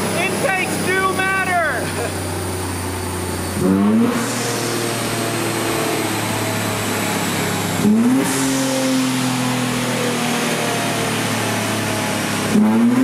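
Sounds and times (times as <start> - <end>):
car engine revving on a dyno: 0.0 - 13.0.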